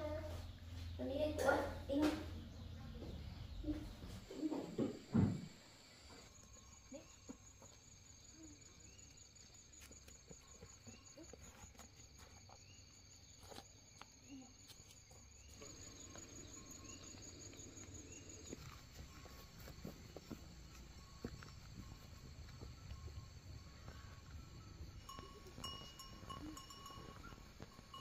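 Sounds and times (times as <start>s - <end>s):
insect trilling: 4.3s - 28.0s.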